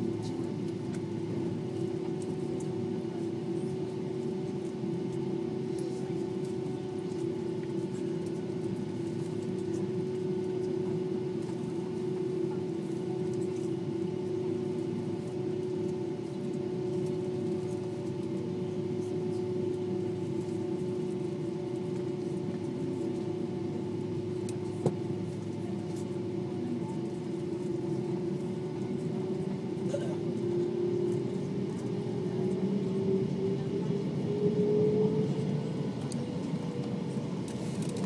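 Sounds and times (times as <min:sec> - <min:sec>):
jet engines idling: 0:00.0 - 0:38.0.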